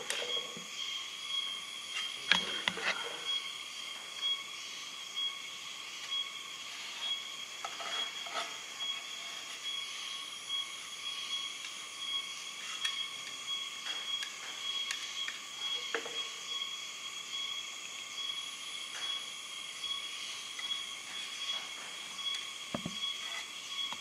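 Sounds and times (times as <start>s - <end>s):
steady high-pitched whine: 0.0s - 24.0s.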